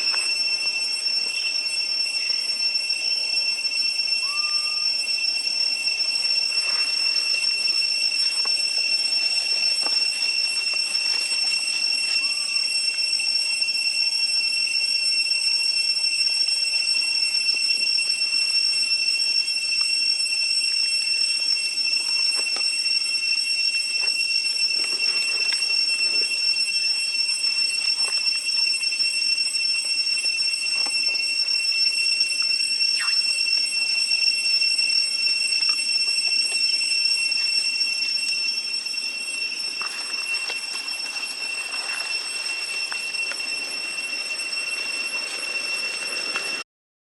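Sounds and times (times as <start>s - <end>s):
high-pitched ringing drone: 0.0s - 46.7s.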